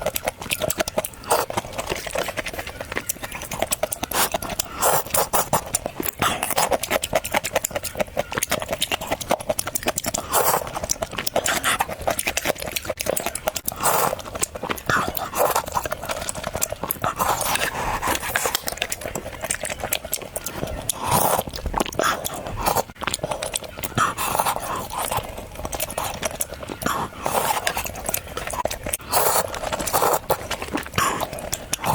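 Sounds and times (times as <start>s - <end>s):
chewing crisp fried food: 0.0s - 31.9s.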